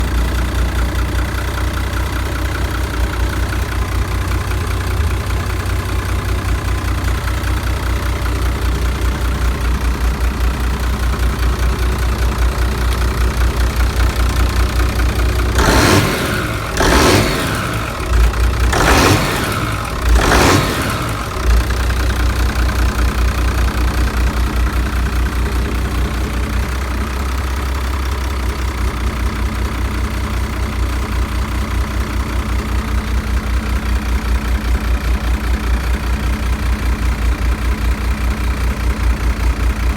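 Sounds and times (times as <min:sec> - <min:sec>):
boat engine idling and revving: 0:00.0 - 0:39.9.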